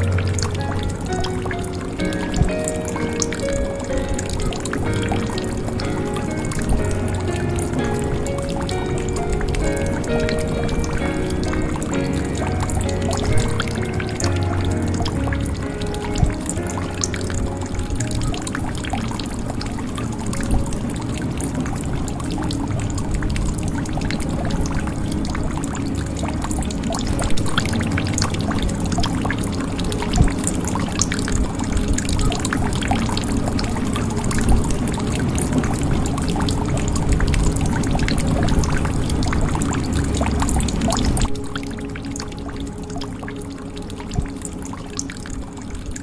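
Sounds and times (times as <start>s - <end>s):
water pouring into a jug: 0.0s - 46.0s.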